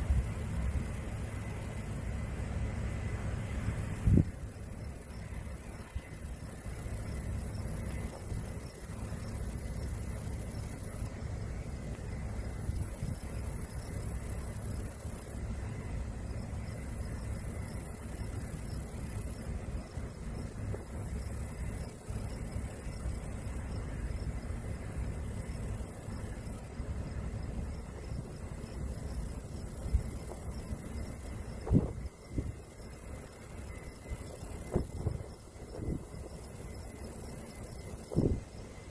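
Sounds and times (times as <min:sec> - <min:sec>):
combine harvester rumbling: 0:00.0 - 0:38.9.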